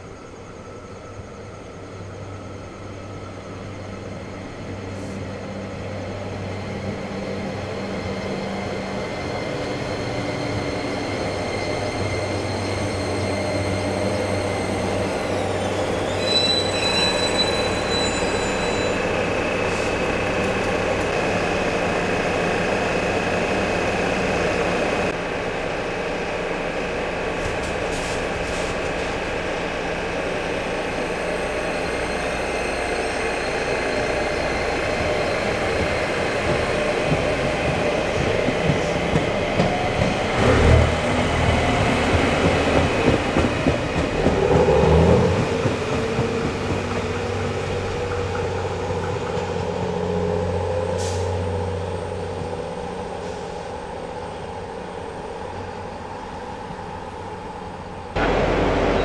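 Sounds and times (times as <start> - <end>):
train running noise: 0.0 - 59.0.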